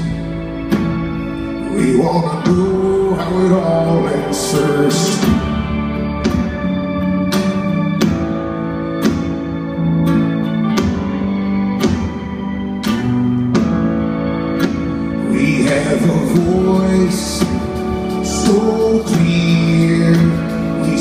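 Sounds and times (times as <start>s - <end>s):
acoustic and electric guitars strummed: 0.0s - 21.0s
bass guitar: 0.0s - 21.0s.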